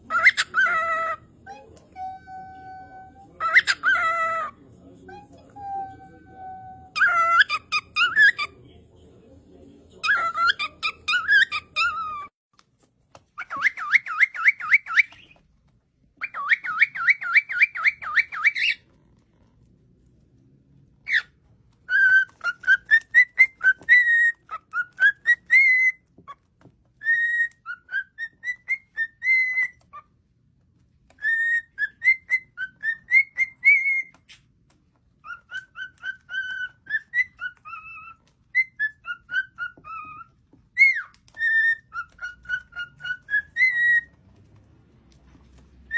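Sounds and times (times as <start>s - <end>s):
cockatiel whistling and chirping: 0.0s - 4.5s, 5.1s - 8.6s, 10.0s - 12.3s, 13.4s - 15.5s, 16.2s - 18.9s, 21.0s - 30.1s, 31.0s - 45.9s.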